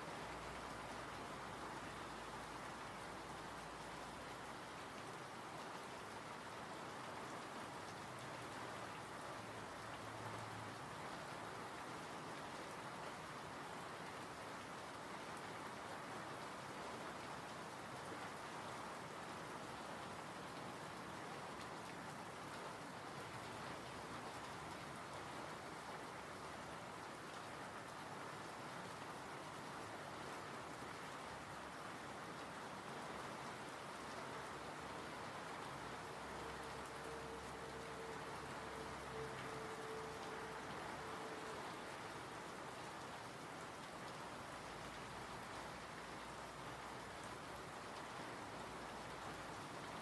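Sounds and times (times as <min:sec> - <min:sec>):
rain pattering: 0:00.0 - 0:50.0.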